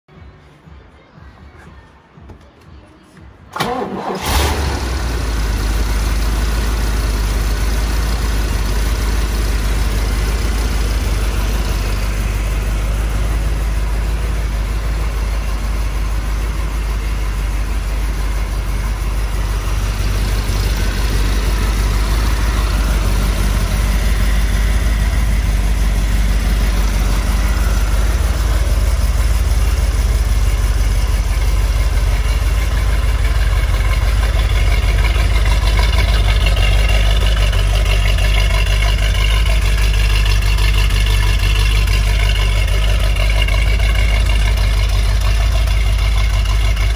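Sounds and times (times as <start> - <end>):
car engine cranking and idling: 3.5 - 46.9.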